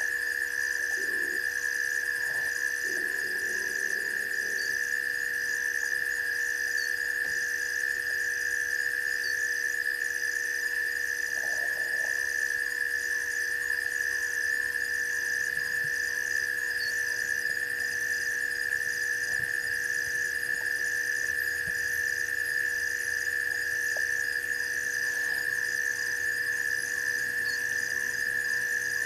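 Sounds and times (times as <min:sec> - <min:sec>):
high-pitched insect drone: 0:00.0 - 0:29.0
insect chirp: 0:00.0 - 0:29.0.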